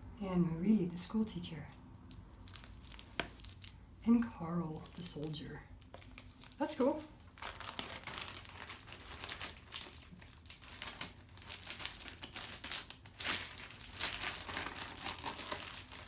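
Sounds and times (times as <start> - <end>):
plastic bags crinkling: 2.0 - 3.8, 4.7 - 16.0.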